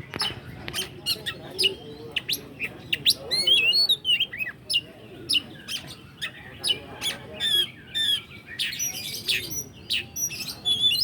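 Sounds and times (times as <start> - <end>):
bird singing whistles and chirps: 0.1 - 11.0.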